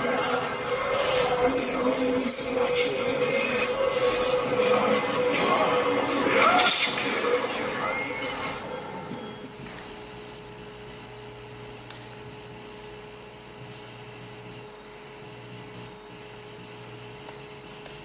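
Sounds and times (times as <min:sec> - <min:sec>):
room hum and hiss: 0:00.0 - 0:18.0.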